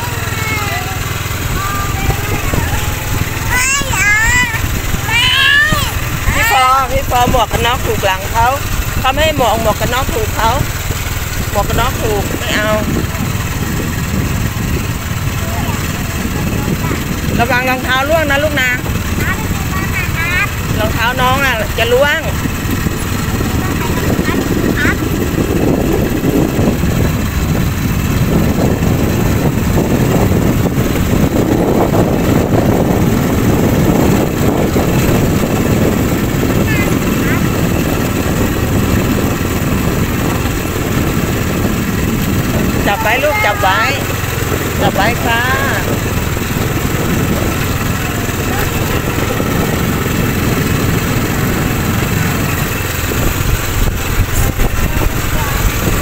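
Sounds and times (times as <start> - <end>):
motorcycle engine running: 0.0 - 56.0
wind on microphone: 0.0 - 56.0.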